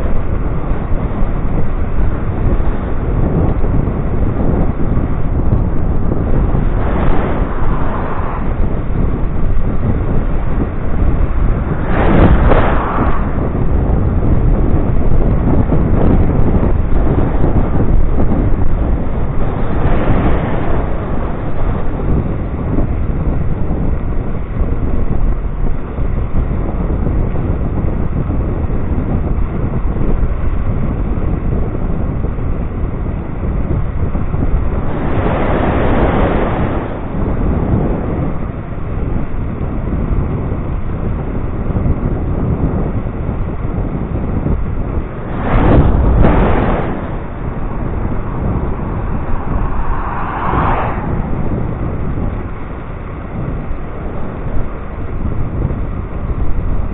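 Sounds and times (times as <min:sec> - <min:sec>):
wind rushing over microphone: 0:00.0 - 0:56.9.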